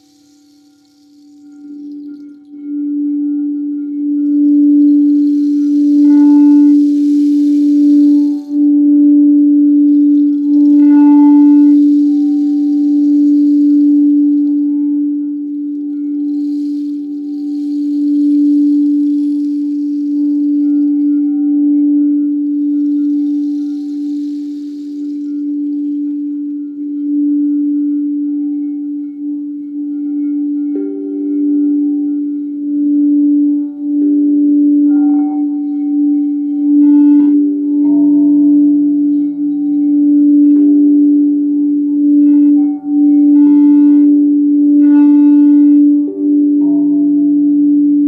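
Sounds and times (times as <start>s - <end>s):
singing bowls ringing: 0.0s - 48.0s.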